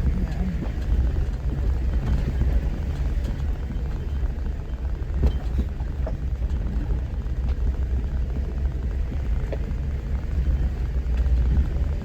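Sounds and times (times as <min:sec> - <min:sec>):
low rumble of engine and tyres: 0:00.0 - 0:12.0.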